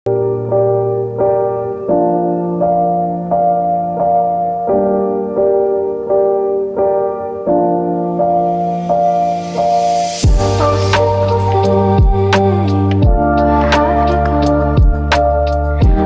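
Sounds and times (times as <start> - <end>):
soft slow piano chords: 0.1 - 16.0.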